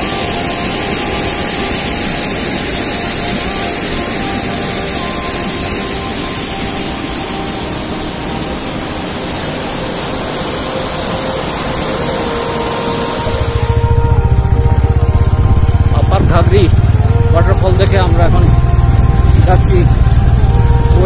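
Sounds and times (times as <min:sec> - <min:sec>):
stream rushing down cascade: 0:00.0 - 0:21.0.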